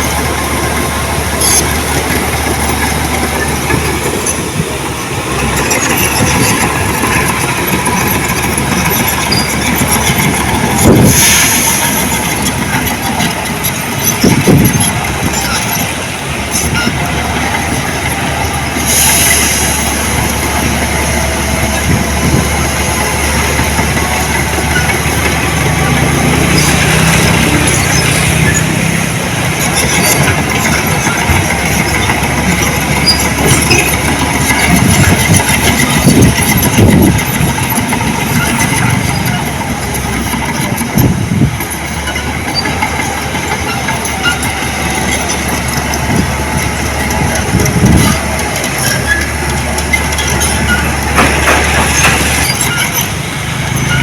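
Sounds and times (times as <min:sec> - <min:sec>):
heavy machinery running: 0:00.0 - 0:54.0
machinery clanks and squeals: 0:00.0 - 0:54.0.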